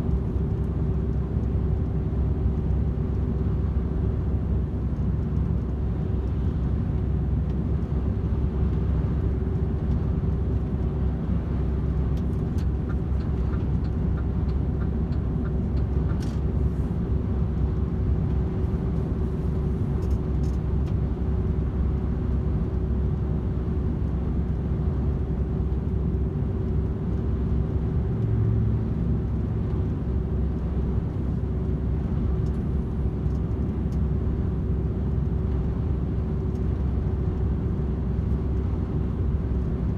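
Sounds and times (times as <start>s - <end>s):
road rumble: 0.0s - 39.9s
truck diesel drone: 0.0s - 39.9s.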